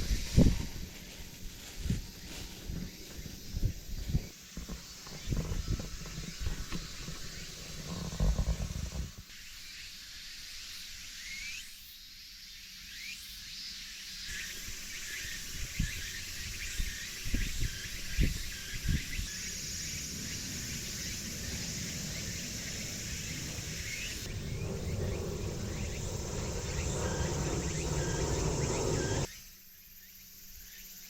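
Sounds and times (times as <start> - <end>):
insects chirring: 0.0 - 9.2, 14.3 - 31.0.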